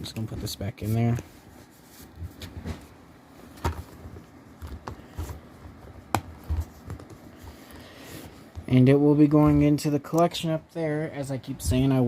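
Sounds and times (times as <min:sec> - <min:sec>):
soft handling noise: 0:00.0 - 0:12.0.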